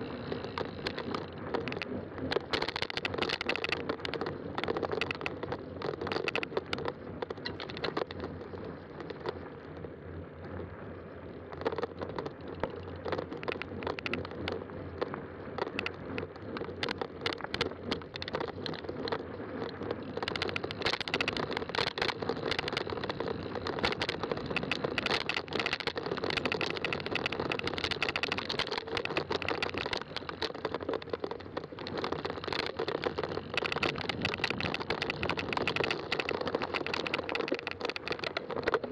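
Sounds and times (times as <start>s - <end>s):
bike clicking and rattling: 0.0s - 38.9s
bike tires rolling on trail: 0.0s - 38.9s.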